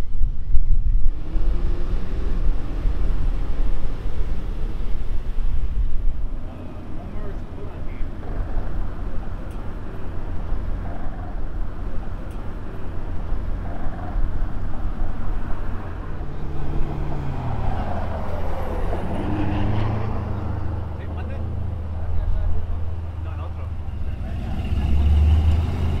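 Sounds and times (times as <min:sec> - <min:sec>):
engine rumble: 0:00.0 - 0:26.0
vehicle passing overhead: 0:01.1 - 0:26.0.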